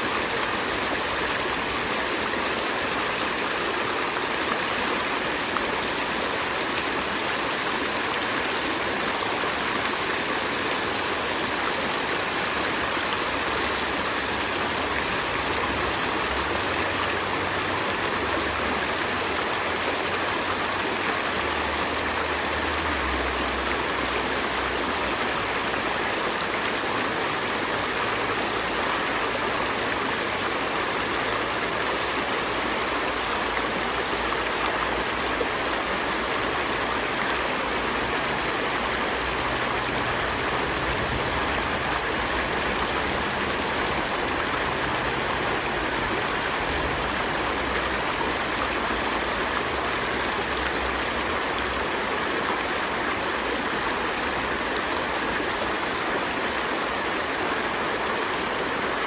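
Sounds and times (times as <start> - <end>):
river stream flowing: 0.0 - 59.0.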